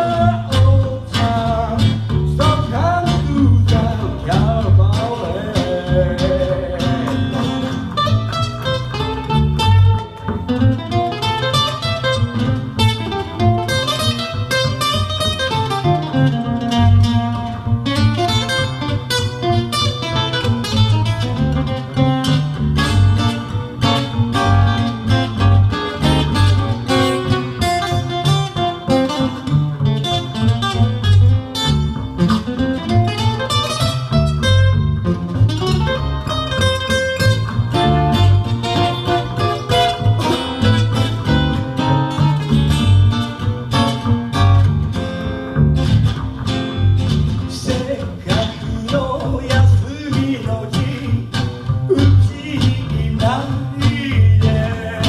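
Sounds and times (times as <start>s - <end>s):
plucked double bass: 0.0s - 55.0s.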